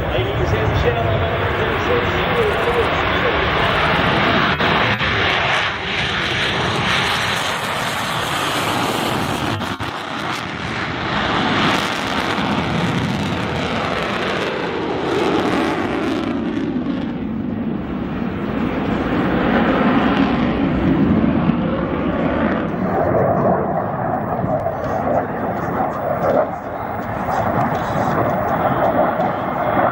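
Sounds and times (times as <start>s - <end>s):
jet engines roaring: 0.0s - 29.9s.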